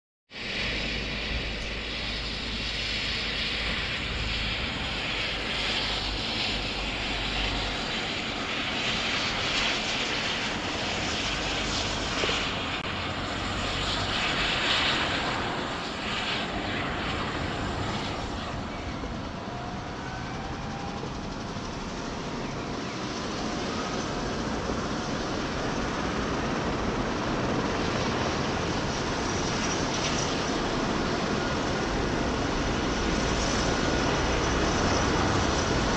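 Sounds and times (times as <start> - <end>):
helicopter turbine engines running: 0.3 - 35.9
faint rising turbine whine: 0.4 - 35.9.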